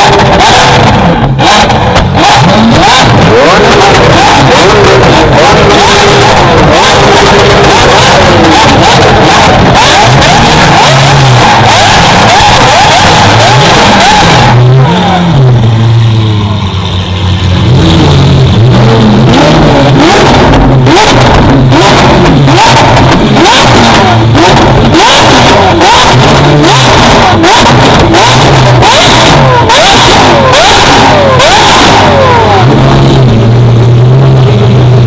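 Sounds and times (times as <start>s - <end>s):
car engine revving hard: 0.0s - 35.0s
sharp exhaust cracks: 0.0s - 35.0s.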